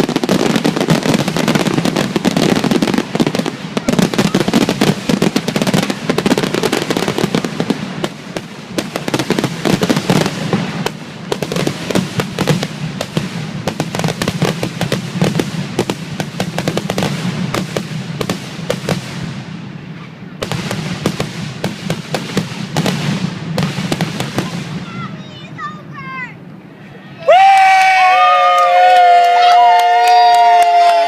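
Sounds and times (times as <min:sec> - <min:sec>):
fireworks bursting and crackling: 0:00.0 - 0:26.7.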